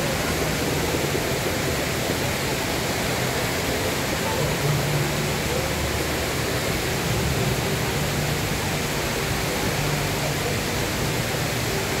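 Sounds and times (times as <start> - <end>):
indoor waterfall pouring into basin: 0.0 - 12.0.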